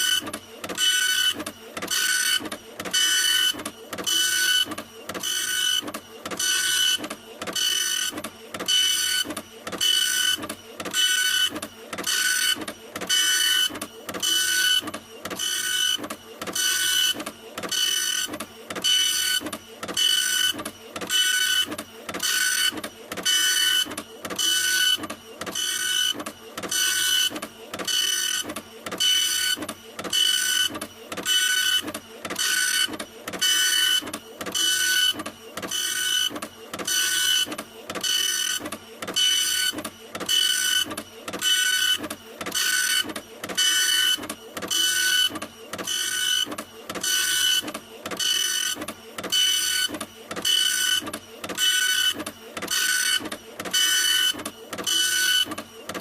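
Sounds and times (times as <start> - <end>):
printer printing: 0.0 - 56.0.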